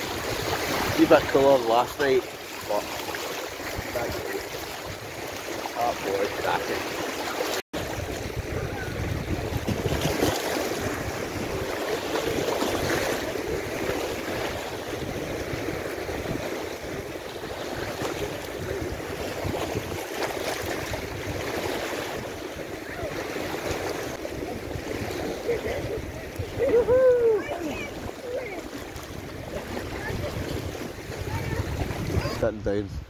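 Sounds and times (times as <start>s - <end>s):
waves breaking over rocks: 0.0s - 32.8s.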